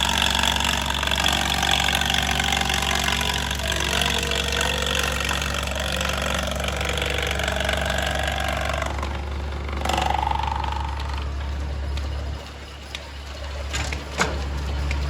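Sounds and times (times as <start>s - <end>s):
tractor engine running: 0.0s - 15.0s
wood planer whine: 0.0s - 15.0s.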